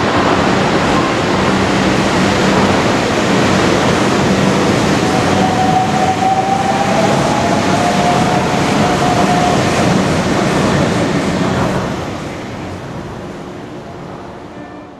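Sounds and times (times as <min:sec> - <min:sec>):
monorail train running: 0:00.0 - 0:14.9
train whine: 0:00.0 - 0:14.9.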